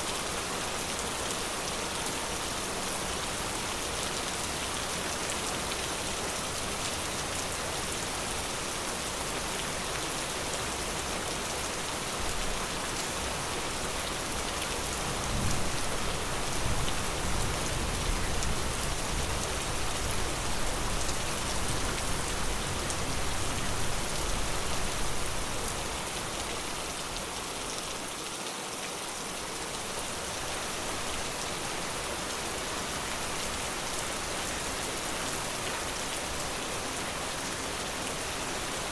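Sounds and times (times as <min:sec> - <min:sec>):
forest rain falling: 0:00.0 - 0:38.9.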